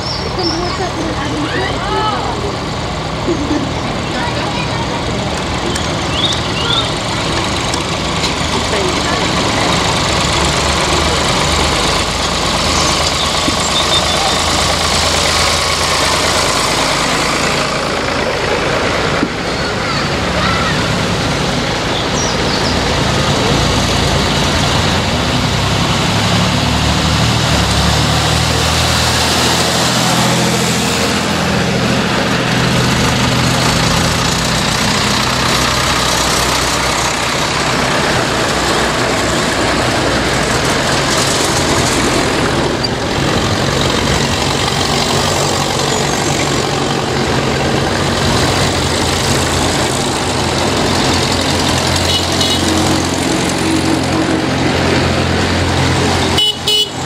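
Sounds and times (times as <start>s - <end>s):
tractor engines passing: 0.0s - 57.0s.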